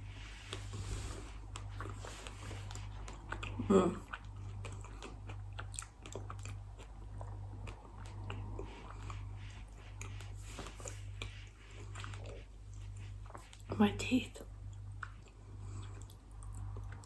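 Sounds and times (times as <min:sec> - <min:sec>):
person chewing food: 0:00.0 - 0:13.8, 0:14.4 - 0:17.0.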